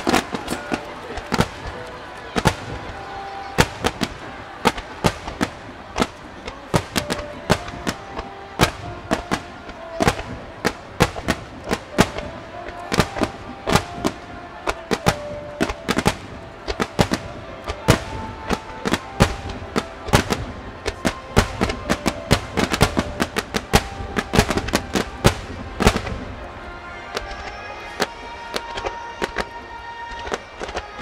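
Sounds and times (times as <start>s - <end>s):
fireworks bangs and crackle: 0.0s - 31.0s
music with held notes: 0.0s - 31.0s.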